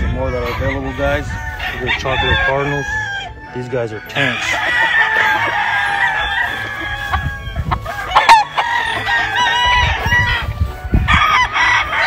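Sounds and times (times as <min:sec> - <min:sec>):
roosters crowing: 0:00.1 - 0:12.0.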